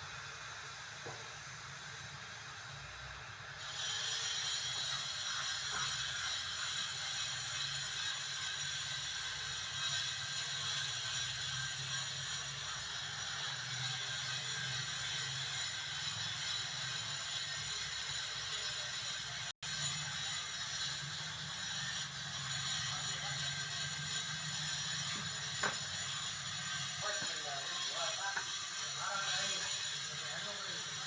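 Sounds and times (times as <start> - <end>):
geared mechanism running: 3.6 - 31.0.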